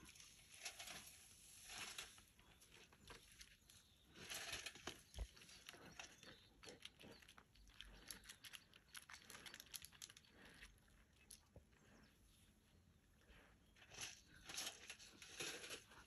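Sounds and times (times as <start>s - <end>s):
faint crackles and rustles: 0.0s - 16.0s.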